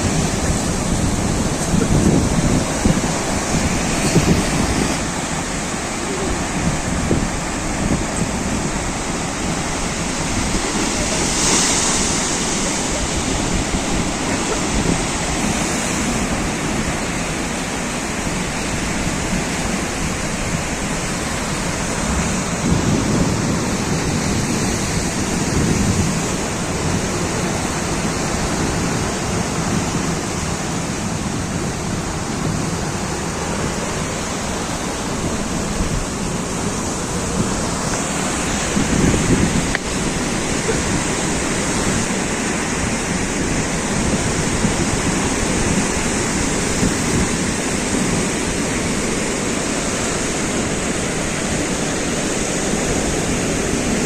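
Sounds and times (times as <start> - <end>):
sea waves breaking: 0.0 - 54.0
wind buffeting microphone: 0.0 - 54.0.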